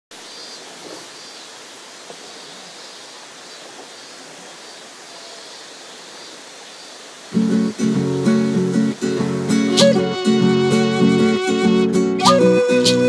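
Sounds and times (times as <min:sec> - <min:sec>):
flowing water rushing: 0:00.1 - 0:13.0.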